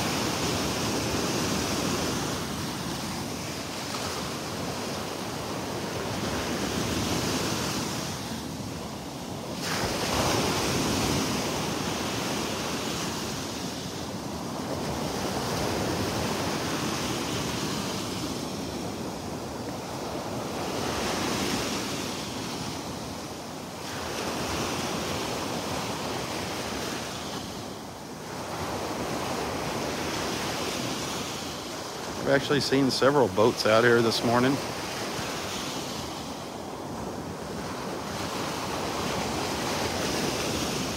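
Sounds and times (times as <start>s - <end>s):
waves washing on beach: 0.0s - 40.9s.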